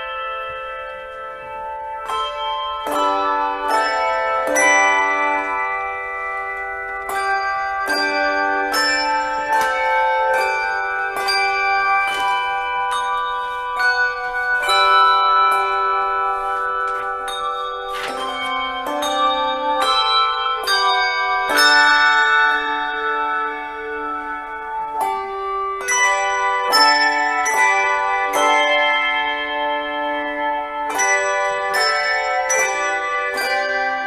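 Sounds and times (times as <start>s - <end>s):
bell chords ringing: 0.0s - 34.0s.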